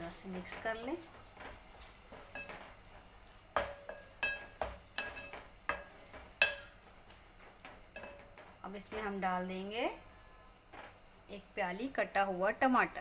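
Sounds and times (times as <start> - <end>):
meat frying: 0.0 - 13.0.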